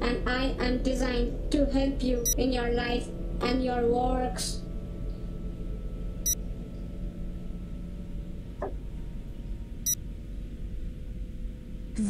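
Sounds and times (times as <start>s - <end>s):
low electronic drone: 0.0s - 12.0s.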